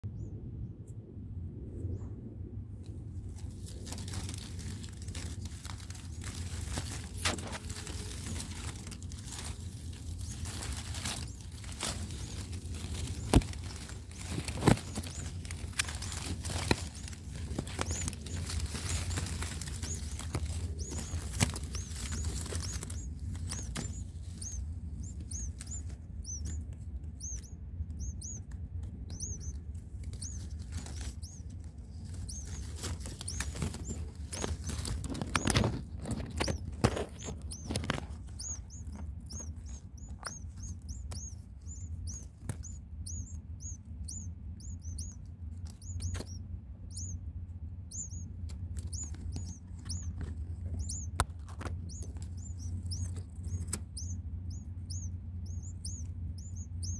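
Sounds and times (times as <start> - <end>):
nestling birds cheeping: 3.0 - 56.9.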